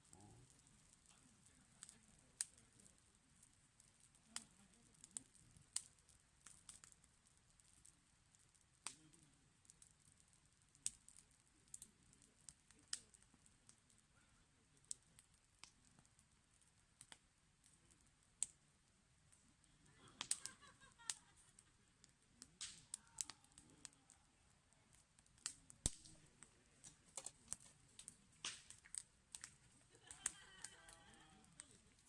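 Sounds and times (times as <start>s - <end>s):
firewood crackling: 0.0s - 32.0s.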